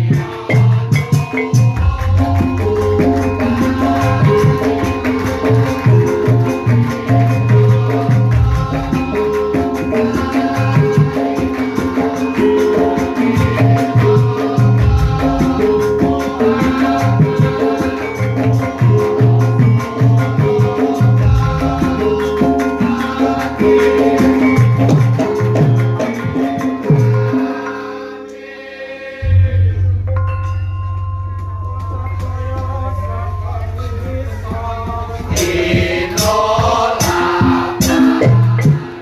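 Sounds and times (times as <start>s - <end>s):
gamelan ensemble playing: 0.0s - 28.6s, 29.2s - 39.0s.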